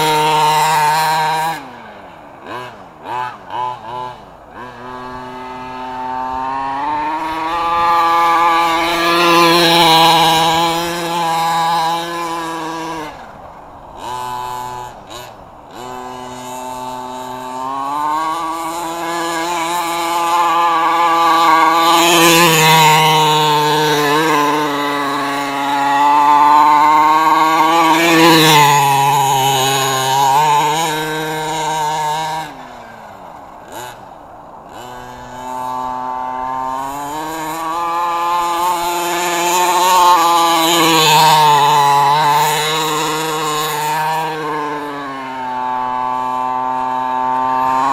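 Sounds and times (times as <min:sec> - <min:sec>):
two-stroke engine revving: 0:00.0 - 0:47.9.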